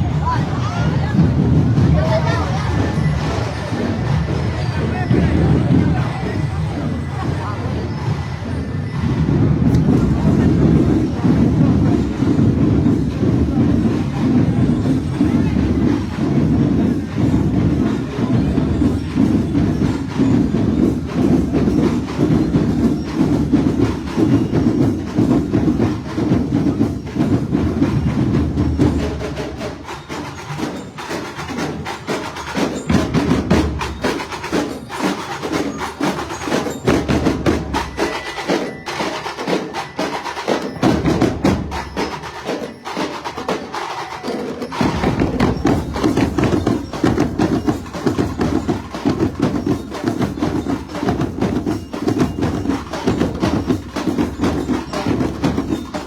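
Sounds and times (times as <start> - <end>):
drums: 0.0 - 56.0.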